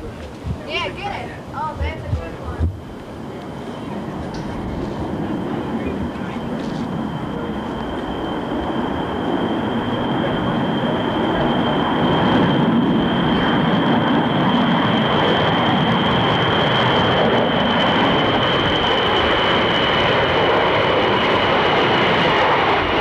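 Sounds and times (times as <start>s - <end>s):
jet engines rumbling overhead: 0.0s - 23.0s.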